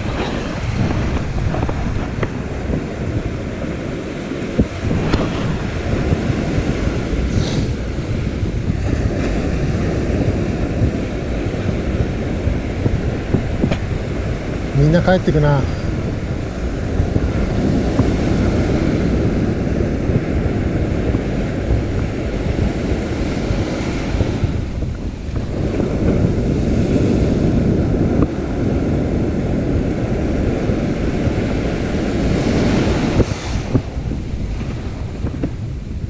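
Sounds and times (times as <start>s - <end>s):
surf washing onto beach: 0.0s - 36.0s
wind buffeting microphone: 0.0s - 36.0s.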